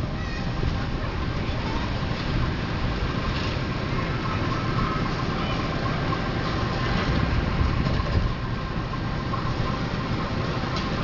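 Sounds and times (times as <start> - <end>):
diesel locomotive engine idling: 0.0 - 11.0.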